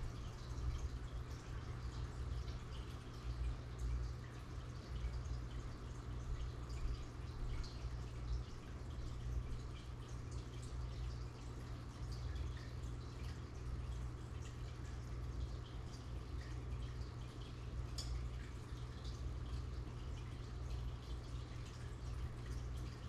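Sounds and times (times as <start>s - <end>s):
aquarium bubbles popping: 0.0s - 23.0s
low equipment hum: 0.0s - 23.0s.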